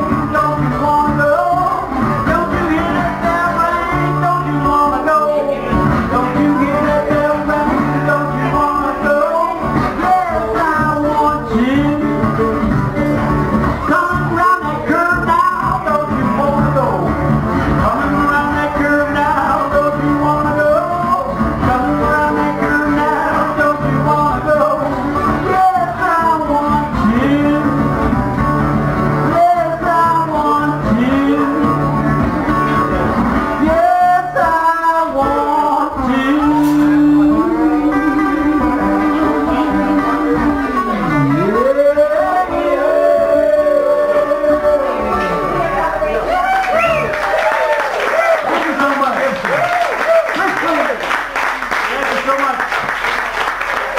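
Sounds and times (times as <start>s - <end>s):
man singing: 0.0s - 46.0s
resonator guitar playing blues: 0.0s - 47.4s.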